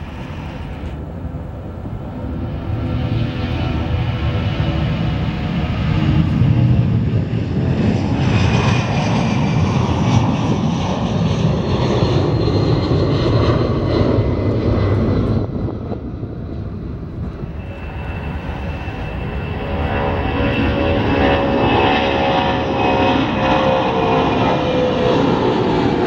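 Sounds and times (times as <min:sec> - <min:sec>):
distant jet airliner taking off: 0:00.0 - 0:26.0
jet engines at takeoff: 0:00.0 - 0:26.0.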